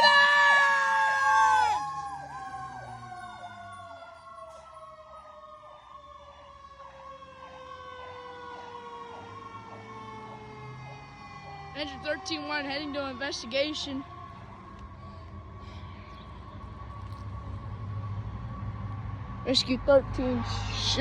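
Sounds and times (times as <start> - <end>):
fire engine sirens: 0.0 - 21.0.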